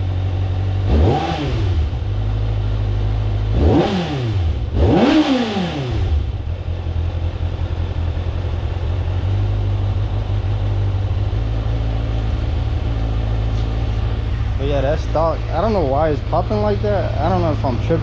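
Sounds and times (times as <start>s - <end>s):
motorcycle engine idling: 0.0s - 18.0s
motorcycle engine revving: 0.0s - 18.0s.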